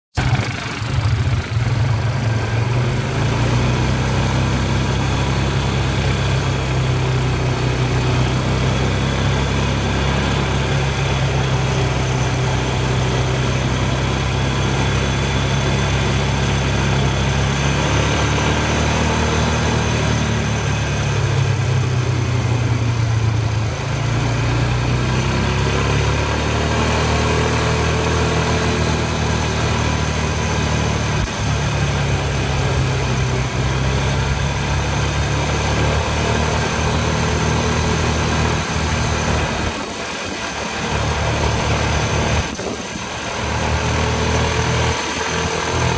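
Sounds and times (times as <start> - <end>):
atv engine running: 0.0 - 45.9
wind: 0.1 - 45.9.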